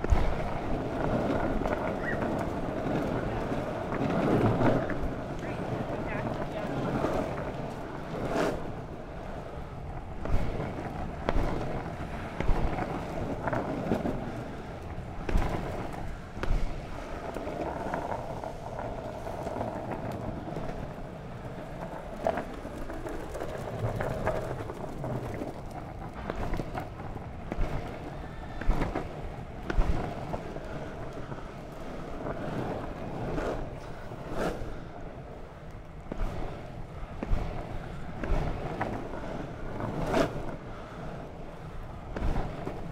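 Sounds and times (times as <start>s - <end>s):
longboard wheels rolling on tarmac: 0.0s - 42.9s.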